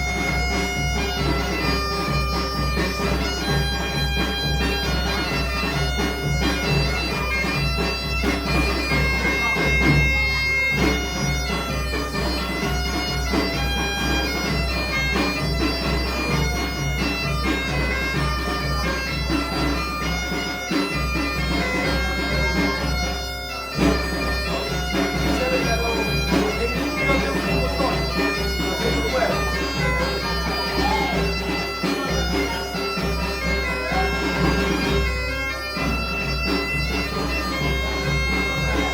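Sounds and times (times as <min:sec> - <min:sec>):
bagpipe playing a tune: 0:00.0 - 0:38.9
drum beat: 0:00.0 - 0:38.9.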